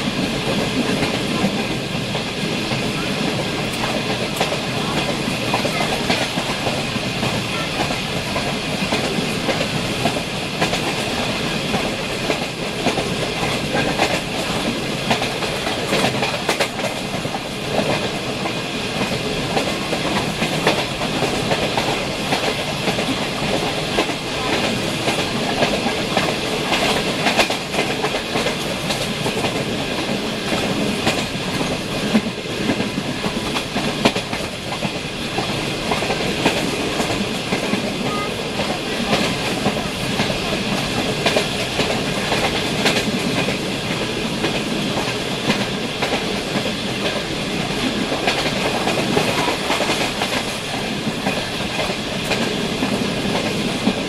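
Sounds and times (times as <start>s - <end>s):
clickety-clack of rail joints: 0.0s - 54.0s
train wheels rumbling on rails: 0.0s - 54.0s.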